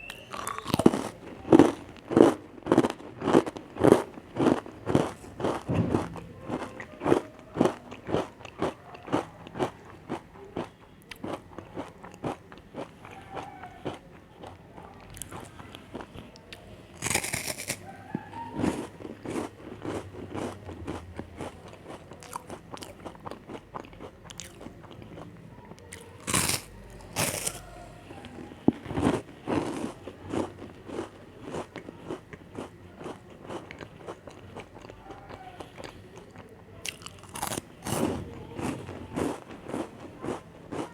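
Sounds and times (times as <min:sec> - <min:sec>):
chewing: 0:00.0 - 0:40.9
crunching cookie bites: 0:00.0 - 0:40.9.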